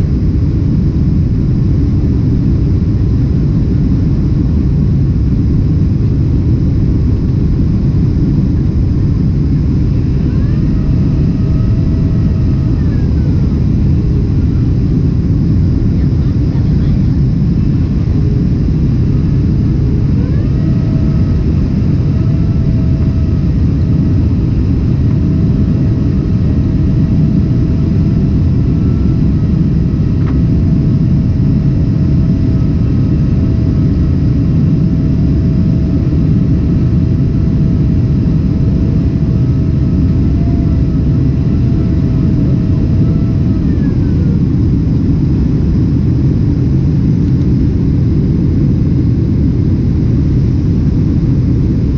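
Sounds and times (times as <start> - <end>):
jet engine roar in cabin: 0.0 - 51.9
thin engine whine: 0.0 - 51.9.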